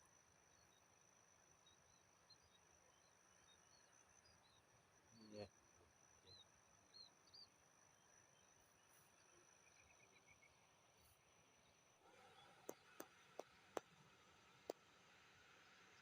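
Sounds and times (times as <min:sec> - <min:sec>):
insect drone: 0:00.0 - 0:16.0
faint chirps: 0:00.3 - 0:14.8.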